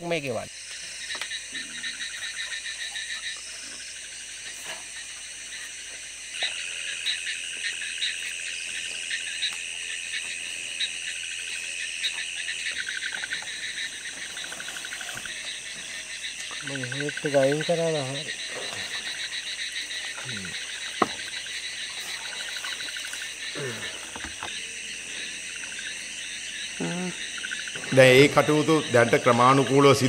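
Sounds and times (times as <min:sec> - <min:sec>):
crickets trilling: 0:00.0 - 0:30.0
rapidly pulsing insect calls: 0:00.0 - 0:30.0.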